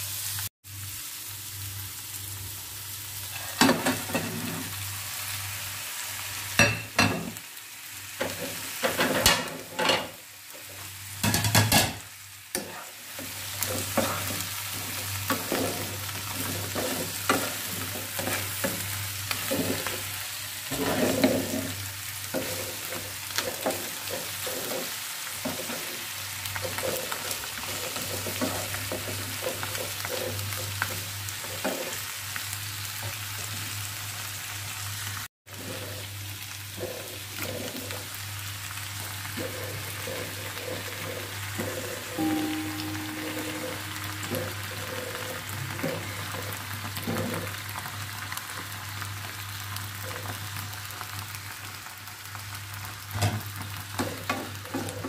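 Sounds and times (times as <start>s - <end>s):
oil sizzling in a frying pan: 0.0s - 55.0s.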